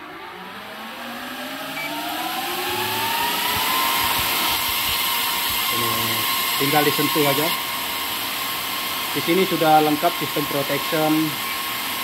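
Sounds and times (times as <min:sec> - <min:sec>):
cooling fans whining and rushing: 0:00.0 - 0:12.0.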